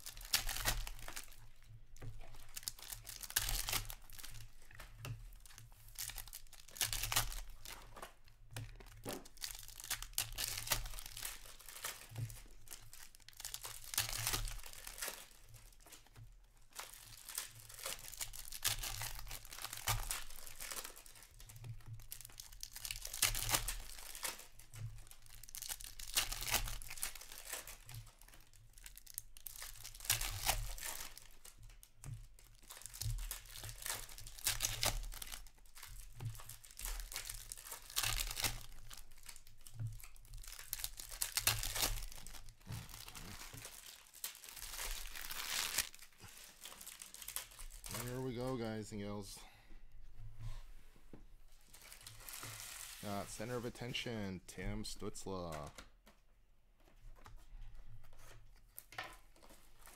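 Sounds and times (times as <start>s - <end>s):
foil wrappers crinkling: 0.0s - 49.3s, 51.5s - 54.2s, 58.0s - 59.9s.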